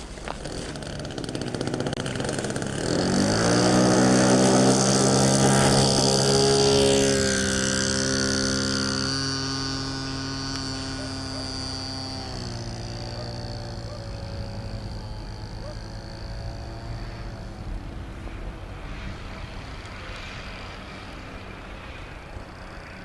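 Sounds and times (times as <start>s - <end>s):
model plane motor droning: 0.0s - 23.0s.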